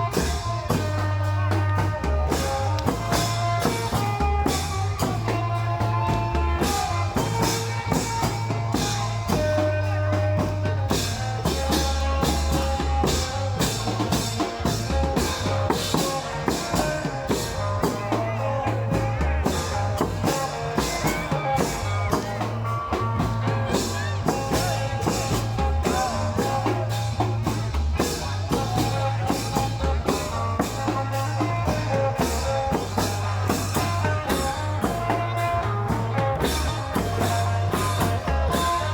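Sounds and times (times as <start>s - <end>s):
cymbals: 0.0s - 38.9s
drum band playing: 0.0s - 38.9s
heavy bass: 0.0s - 38.9s.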